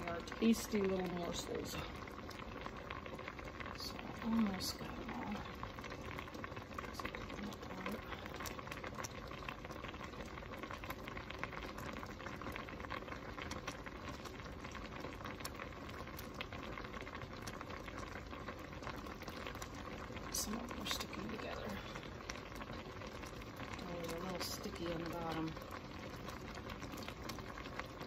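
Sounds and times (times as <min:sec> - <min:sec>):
broth bubbling at a rolling boil: 0:00.0 - 0:28.0.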